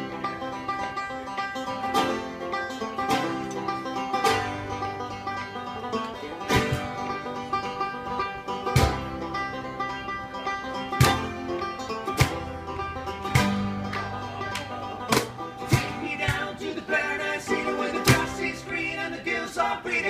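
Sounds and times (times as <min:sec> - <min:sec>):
bluegrass band music: 0:00.0 - 0:20.0
fast banjo picking: 0:00.0 - 0:20.0
strummed guitar: 0:00.0 - 0:20.0.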